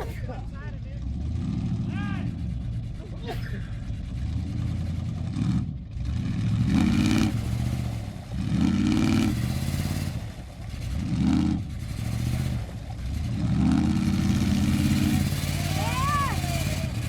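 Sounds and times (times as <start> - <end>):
truck engine revving under load: 0.0 - 17.0.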